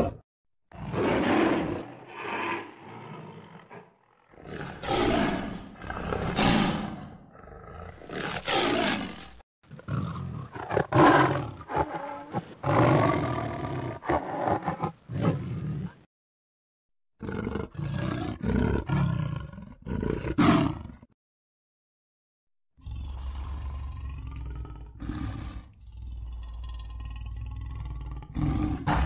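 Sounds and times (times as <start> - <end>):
big cat roaring: 0.0 - 16.1, 17.2 - 21.1, 22.8 - 29.0.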